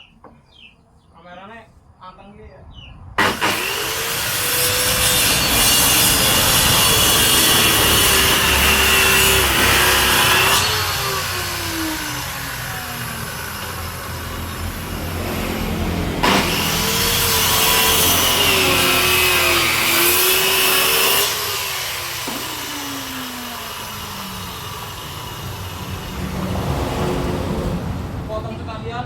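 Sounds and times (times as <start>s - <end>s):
power tool cutting wood: 3.2s - 28.0s.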